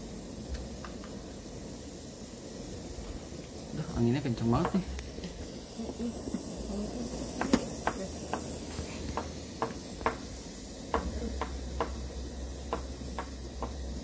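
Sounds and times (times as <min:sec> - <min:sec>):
gas burner flame: 0:00.0 - 0:14.0
heating pot ticking: 0:00.0 - 0:14.0.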